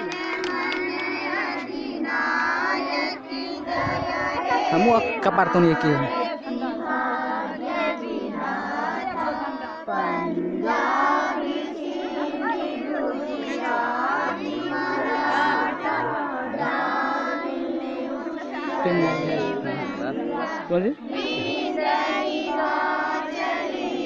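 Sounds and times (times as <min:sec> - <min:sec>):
children singing in unison: 0:00.0 - 0:24.0.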